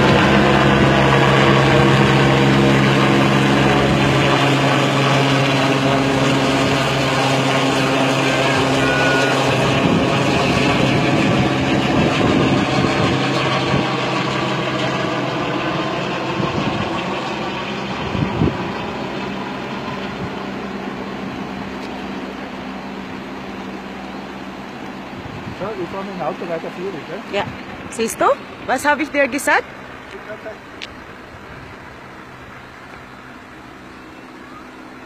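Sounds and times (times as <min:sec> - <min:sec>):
helicopter rotor and engine drone: 0:00.0 - 0:35.0.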